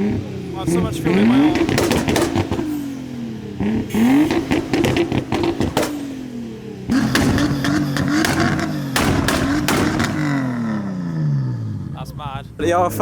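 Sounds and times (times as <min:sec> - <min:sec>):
car engine revving: 0:00.0 - 0:13.0
exhaust pops and bangs: 0:00.1 - 0:11.2.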